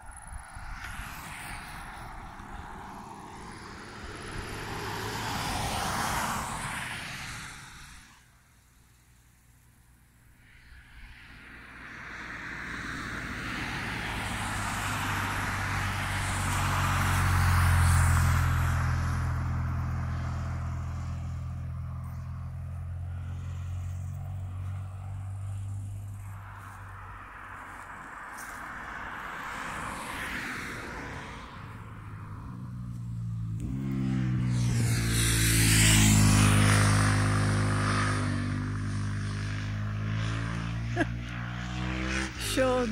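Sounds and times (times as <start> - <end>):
vehicle driving past: 0.4 - 8.3, 10.4 - 42.9.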